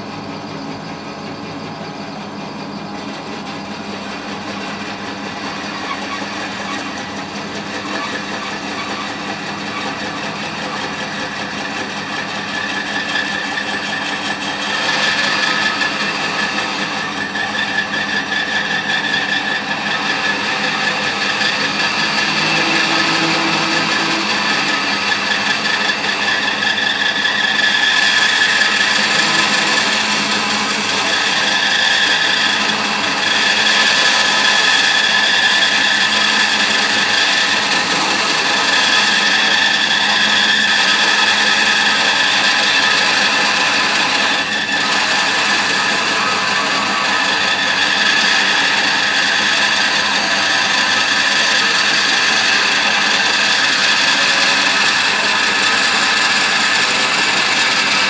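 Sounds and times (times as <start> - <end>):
bandsaw cutting timber: 2.9 - 58.0.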